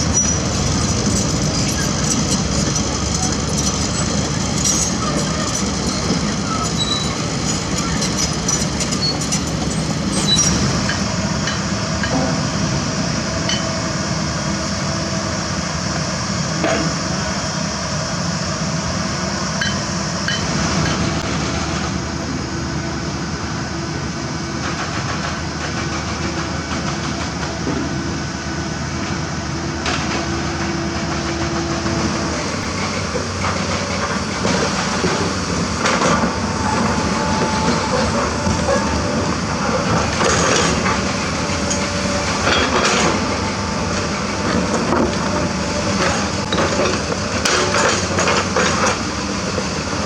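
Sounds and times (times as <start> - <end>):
diesel engine drone: 0.0 - 50.0.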